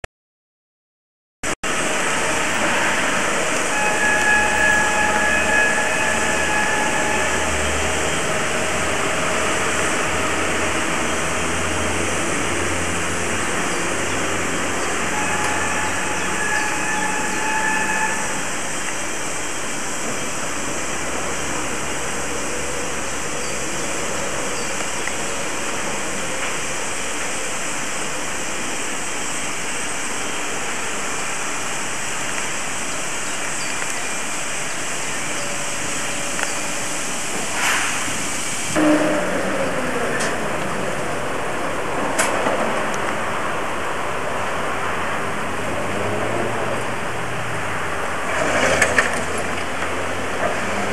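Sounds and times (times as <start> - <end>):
high machine whine: 1.6 - 45.8
loud hiss of steam: 1.6 - 48.4.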